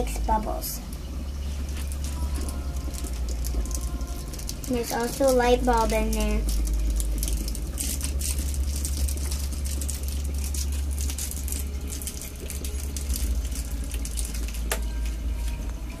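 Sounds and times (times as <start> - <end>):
steady low hum: 0.0 - 16.0
water bubbling and gurgling: 0.0 - 16.0.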